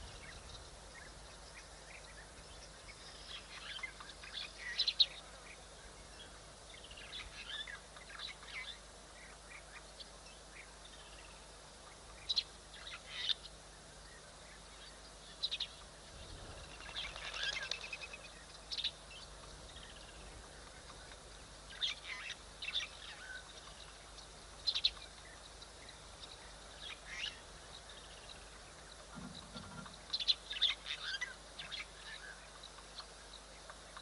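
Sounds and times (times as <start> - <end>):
wild birds chirping: 0.0 - 34.0.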